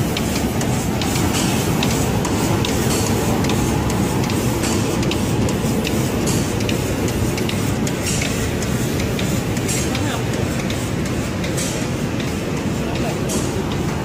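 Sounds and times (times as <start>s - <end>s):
sharp machine clicks: 0.0s - 14.0s
spray painting machine running: 0.0s - 14.0s.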